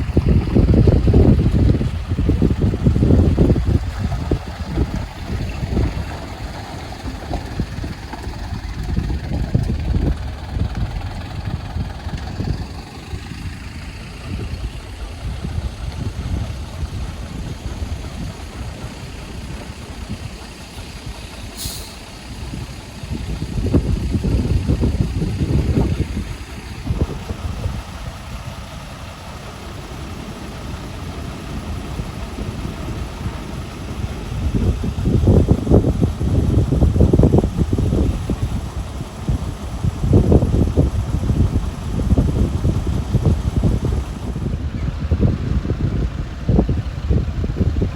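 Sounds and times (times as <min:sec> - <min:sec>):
truck diesel engine rumbling: 0:00.0 - 0:47.9.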